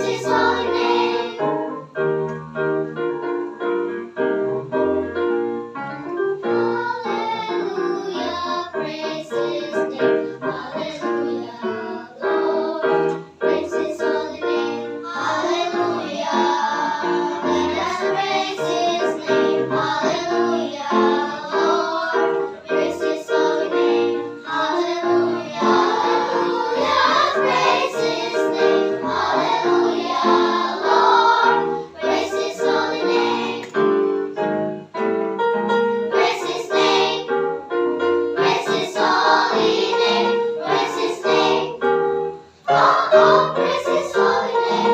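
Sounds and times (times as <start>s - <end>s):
children's choir singing: 0.0s - 2.0s, 6.0s - 34.4s, 36.0s - 37.6s, 38.2s - 44.9s
instrumental accompaniment: 0.0s - 44.9s.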